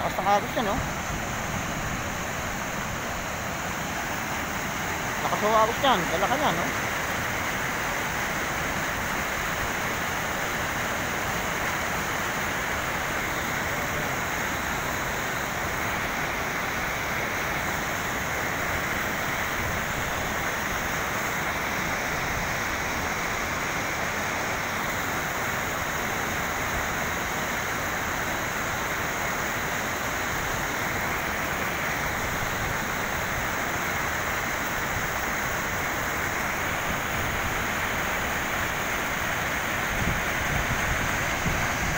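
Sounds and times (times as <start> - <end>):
river water rushing over rocks: 0.0 - 41.9.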